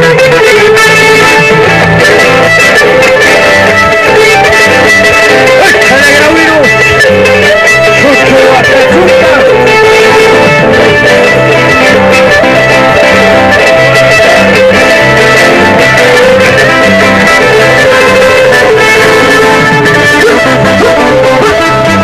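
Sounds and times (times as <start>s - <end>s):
repeating bass line: 0.0s - 22.0s
string band playing: 0.0s - 22.0s
strummed guitars: 0.0s - 22.0s
violin melody: 0.0s - 22.0s.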